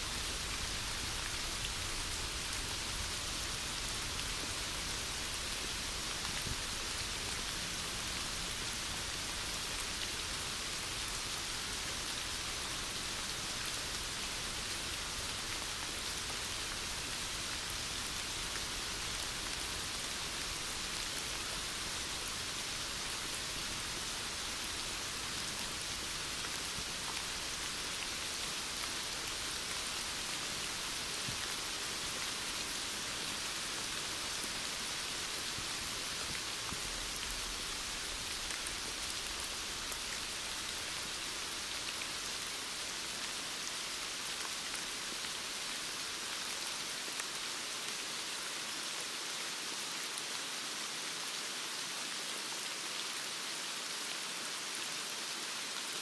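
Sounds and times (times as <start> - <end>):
heavy rain falling: 0.0 - 48.8.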